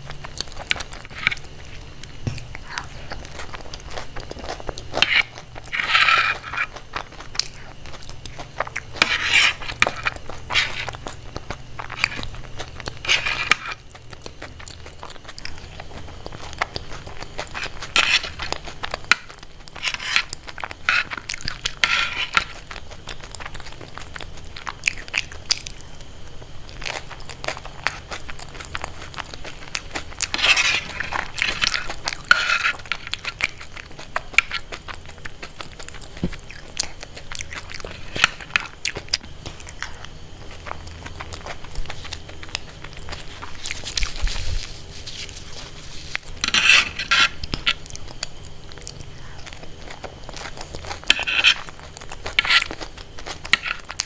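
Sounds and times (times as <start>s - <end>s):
crunchy bites and chewing: 0.0s - 54.0s.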